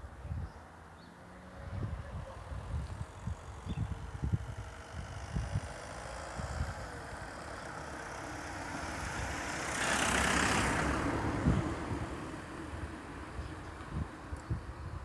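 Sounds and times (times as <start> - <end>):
road vehicle passing: 0.7 - 15.0.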